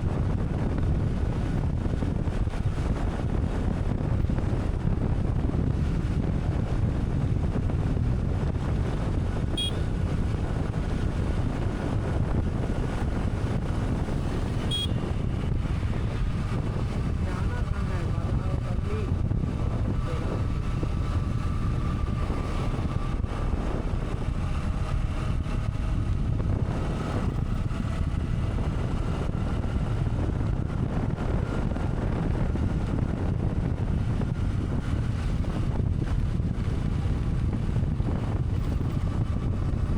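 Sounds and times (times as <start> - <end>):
motorcycle engine: 0.0 - 39.9
wind rumble: 0.0 - 39.9.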